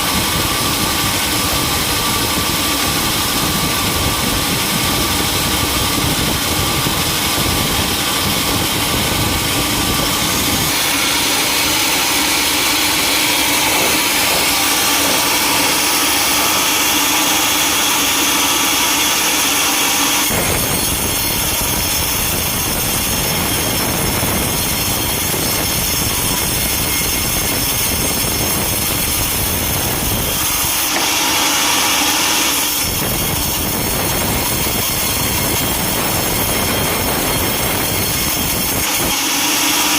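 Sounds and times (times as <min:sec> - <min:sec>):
sawmill machinery sawing timber: 0:00.0 - 0:39.9.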